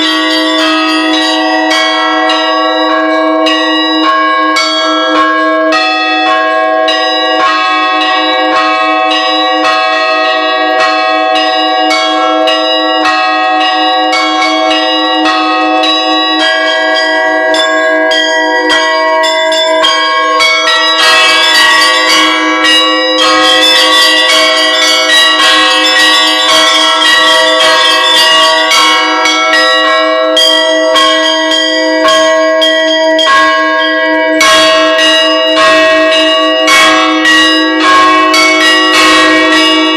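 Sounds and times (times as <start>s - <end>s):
bells ringing: 0.0s - 39.9s.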